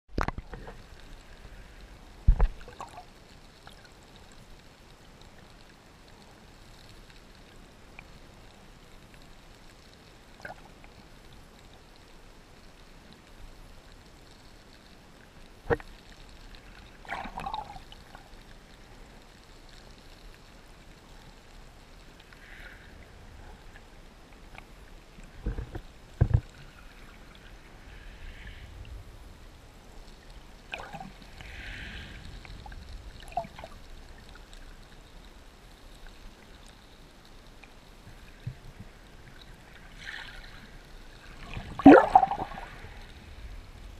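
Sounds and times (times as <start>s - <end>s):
muffled underwater water wash: 0.1s - 43.9s.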